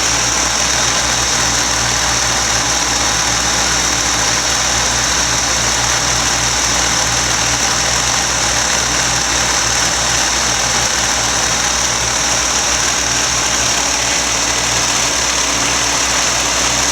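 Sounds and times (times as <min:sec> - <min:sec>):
vacuum cleaner high-pitched whir: 0:00.0 - 0:16.9.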